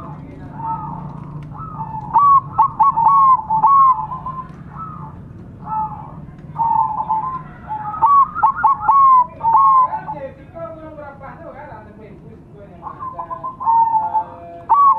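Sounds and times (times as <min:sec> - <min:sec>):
doves cooing: 0:00.0 - 0:11.0, 0:12.7 - 0:14.9
steady low hum: 0:00.0 - 0:14.9.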